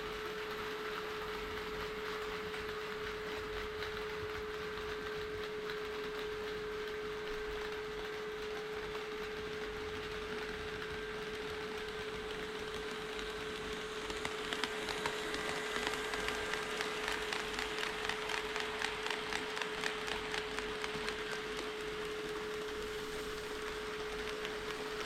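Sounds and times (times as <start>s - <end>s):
model train wheels clicking: 0.5s - 25.0s.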